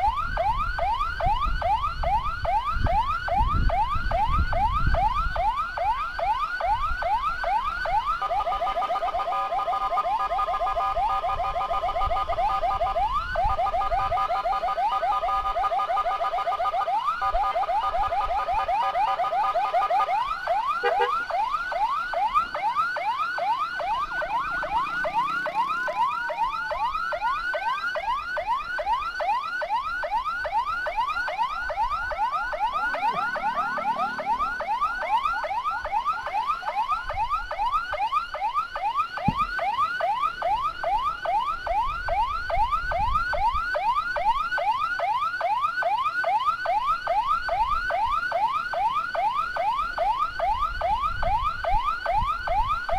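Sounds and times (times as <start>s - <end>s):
electronic siren yelping: 0.0s - 52.9s
slower gliding siren tone: 0.0s - 52.9s.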